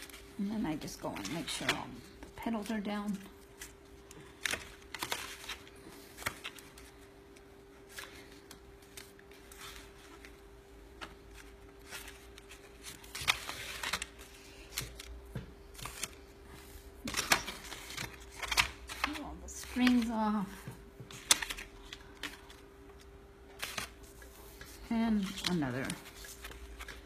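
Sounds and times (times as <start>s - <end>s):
paper petals rustling: 0.0s - 27.0s.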